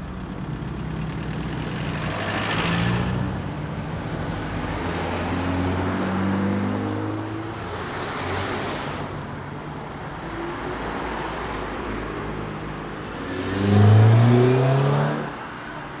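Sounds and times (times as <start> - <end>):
cars accelerating past: 1.0 - 9.2, 10.7 - 15.7.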